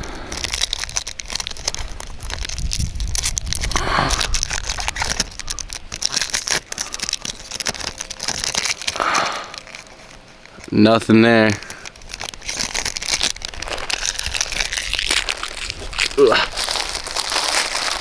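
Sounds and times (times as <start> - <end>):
foil pack crinkling and tearing: 0.0 - 18.0.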